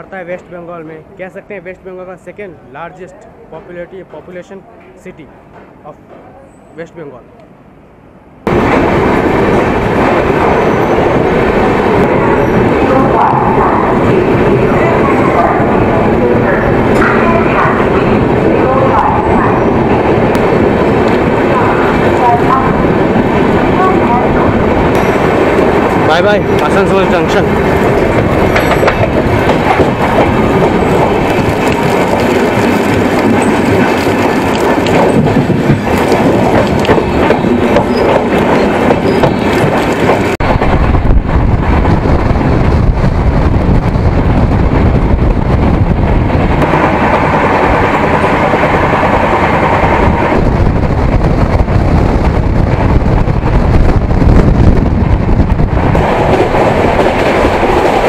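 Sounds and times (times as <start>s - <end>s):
train wheels rolling on rails: 8.5s - 58.0s.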